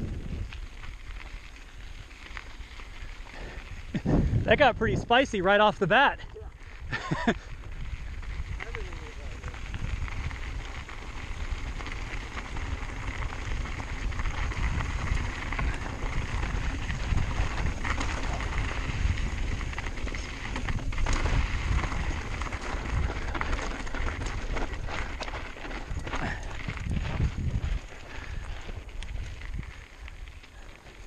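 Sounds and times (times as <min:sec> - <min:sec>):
wind buffeting microphone: 0:00.0 - 0:01.2, 0:01.8 - 0:05.4, 0:06.3 - 0:30.6
tyres crunching over gravel: 0:00.0 - 0:31.0.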